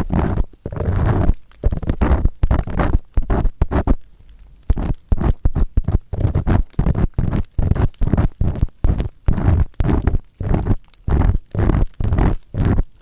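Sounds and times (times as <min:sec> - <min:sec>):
earpick scraping microphone: 0:00.0 - 0:04.0, 0:04.7 - 0:13.0.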